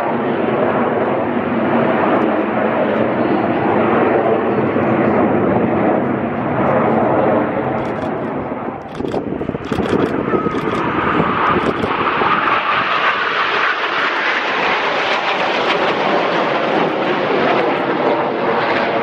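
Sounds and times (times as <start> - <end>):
aircraft engines rushing: 0.0 - 19.0.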